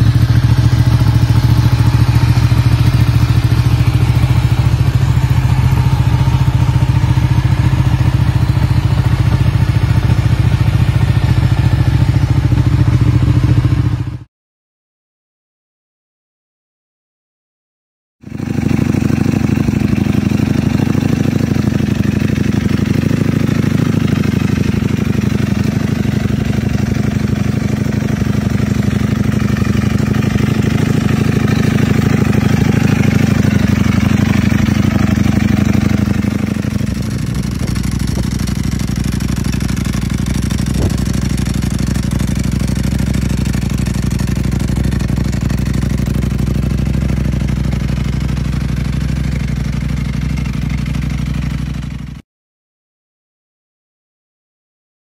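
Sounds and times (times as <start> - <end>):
motorcycle engine idling: 0.0 - 14.3, 18.2 - 52.2.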